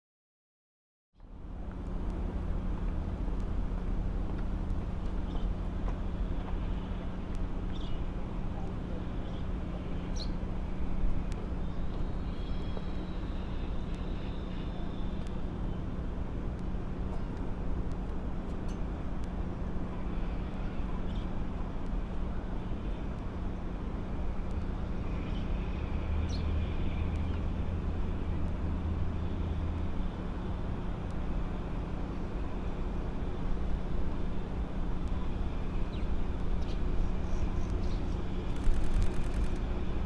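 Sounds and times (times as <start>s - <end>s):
background traffic noise: 1.2s - 40.0s
constant low hum: 1.2s - 40.0s
distant electric locomotive: 1.2s - 40.0s.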